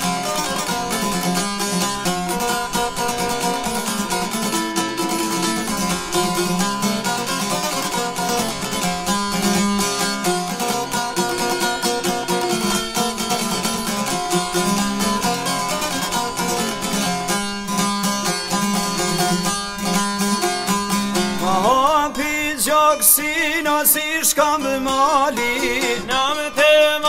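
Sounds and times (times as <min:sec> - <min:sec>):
plucked lutes folk music: 0:00.0 - 0:27.0.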